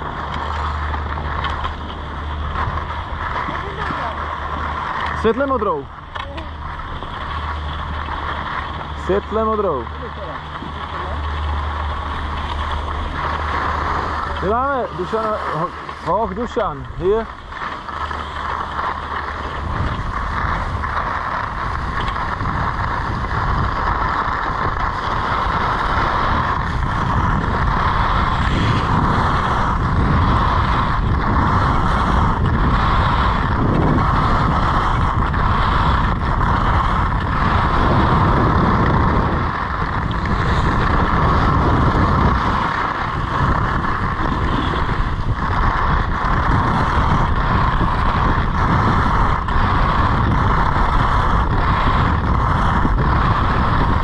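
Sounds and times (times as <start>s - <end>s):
skis scraping on snow: 0.0s - 54.0s
wind on microphone: 0.0s - 54.0s.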